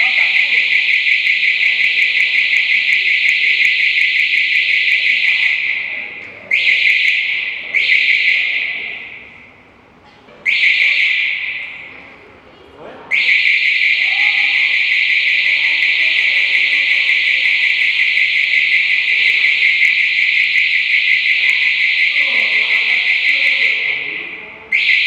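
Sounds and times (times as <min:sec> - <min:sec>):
alarm ringing high steady tone: 0:00.0 - 0:09.5, 0:13.1 - 0:25.0.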